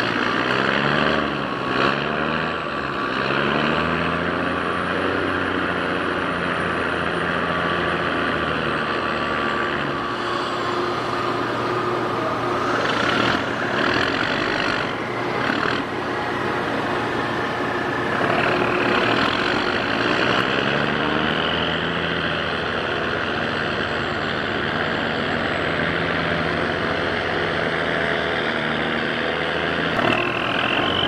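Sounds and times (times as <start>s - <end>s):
diesel engine running: 0.0s - 31.0s
high whine: 5.5s - 31.0s.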